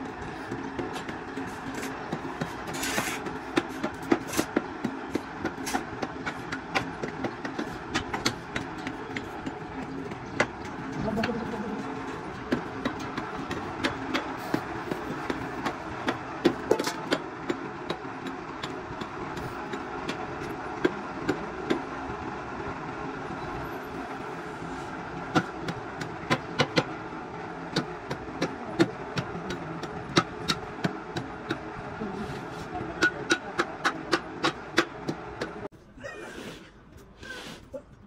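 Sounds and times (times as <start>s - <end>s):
machine running: 0.0s - 35.7s.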